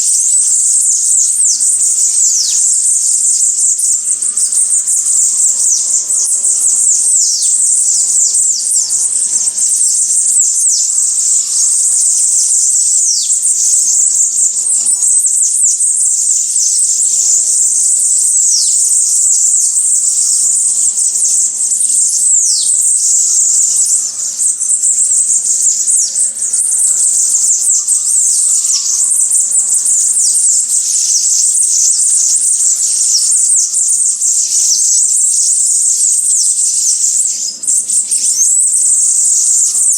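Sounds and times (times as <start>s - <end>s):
downward-sweeping bird calls: 0.0s - 39.9s
songbirds chirping and twittering: 0.0s - 39.9s.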